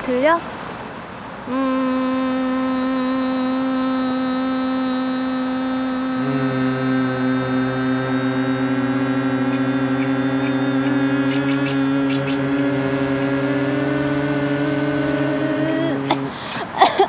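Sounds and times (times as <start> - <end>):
power lines humming: 1.4 - 16.9
deeper pulsing hum: 1.5 - 16.6.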